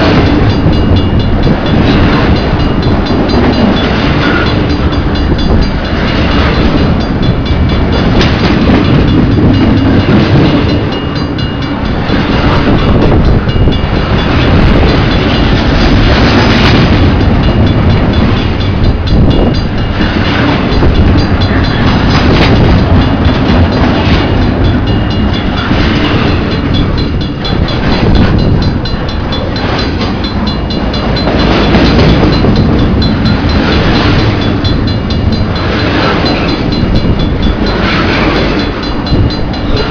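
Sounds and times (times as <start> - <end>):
train wheels on rail: 0.0 - 39.9.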